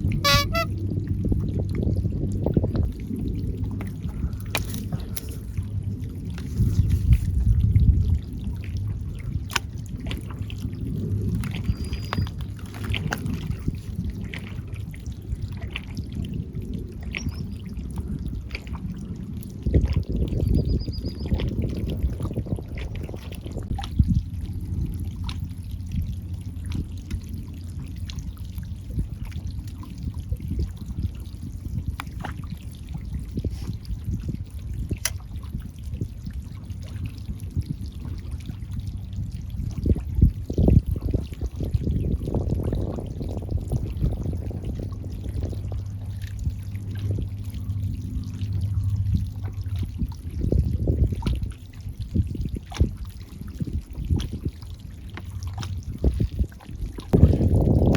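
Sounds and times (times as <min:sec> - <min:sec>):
water splashing against breakwater: 0:00.0 - 0:57.9
wind rumble on microphone: 0:00.0 - 0:57.9.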